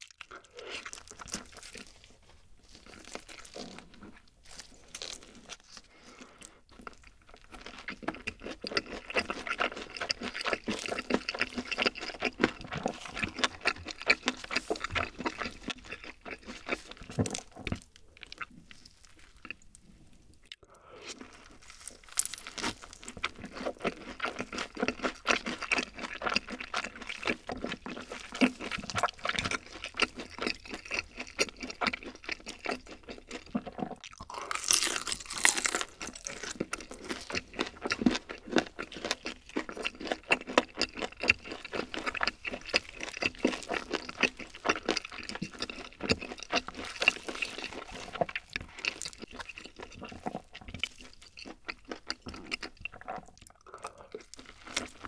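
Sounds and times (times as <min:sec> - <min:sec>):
chewing crispy fried chicken: 0:00.0 - 0:55.0.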